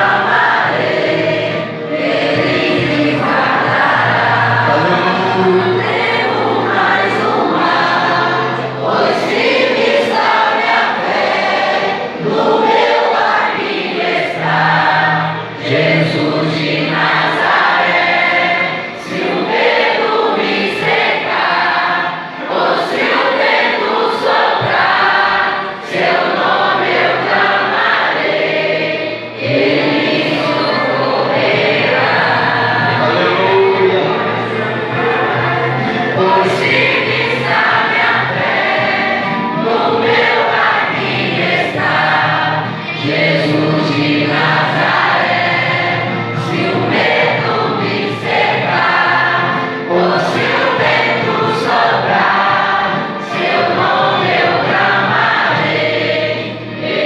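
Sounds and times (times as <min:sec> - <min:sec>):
low held accompaniment notes: 0:00.0 - 0:24.0, 0:24.6 - 0:57.0
congregation singing: 0:00.0 - 0:57.0.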